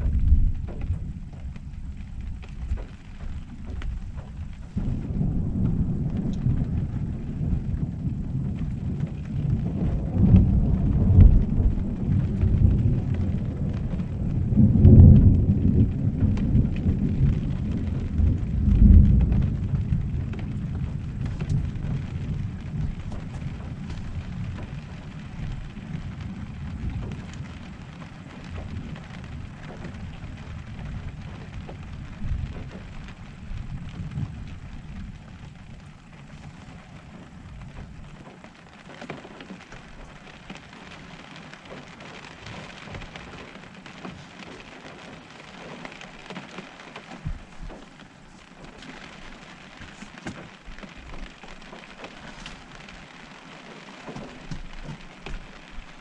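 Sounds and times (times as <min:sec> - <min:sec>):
rain on a roof: 0:00.0 - 0:56.0
thunder rolling: 0:00.0 - 0:56.0.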